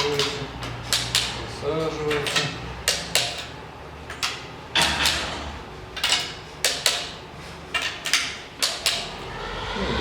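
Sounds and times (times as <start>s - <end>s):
hand tools clicking on metal: 0.0s - 5.3s, 6.0s - 9.2s.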